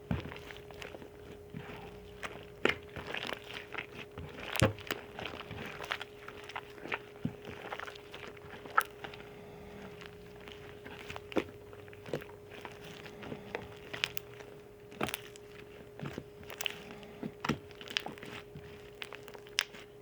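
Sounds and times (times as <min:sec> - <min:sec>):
faint hum: 0:00.0 - 0:20.0
slime clicks and crackles: 0:00.0 - 0:20.0.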